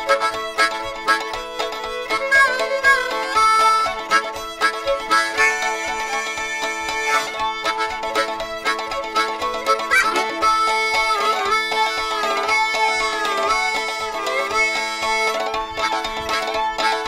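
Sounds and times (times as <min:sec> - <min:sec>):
banjo picking: 0:00.0 - 0:17.0
fiddle playing sliding melody: 0:00.0 - 0:17.0.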